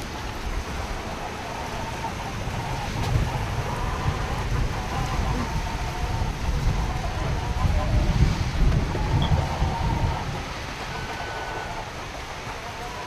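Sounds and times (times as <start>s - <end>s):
steady rain: 0.0s - 13.0s
wind buffeting microphone: 0.0s - 13.0s.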